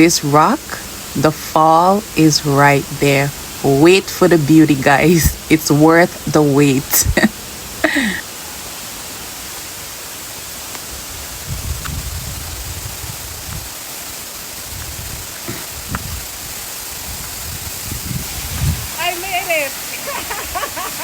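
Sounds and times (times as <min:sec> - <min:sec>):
waterfall rushing hiss: 0:00.0 - 0:21.0.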